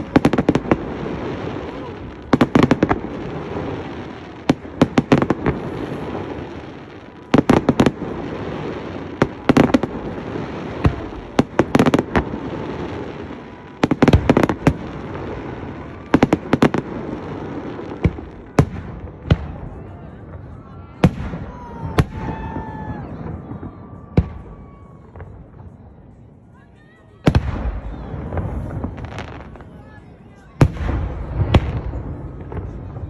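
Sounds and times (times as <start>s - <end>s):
fireworks bursting: 0.0s - 26.3s, 27.2s - 33.0s.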